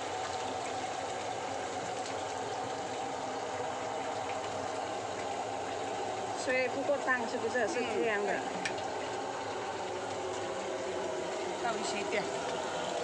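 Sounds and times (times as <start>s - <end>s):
chicken plucker churning whir: 0.0s - 13.0s.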